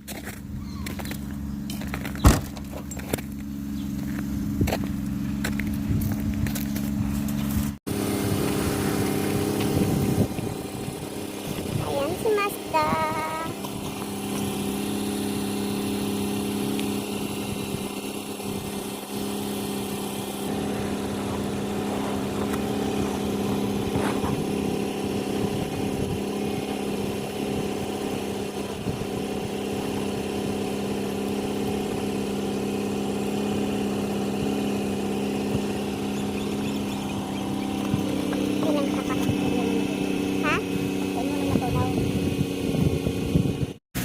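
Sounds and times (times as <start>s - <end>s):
engine humming steadily: 0.0s - 44.0s.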